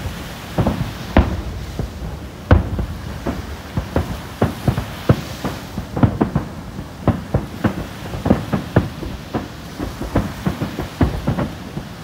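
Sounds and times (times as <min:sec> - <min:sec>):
fireworks booming and cracking: 0:00.0 - 0:12.0.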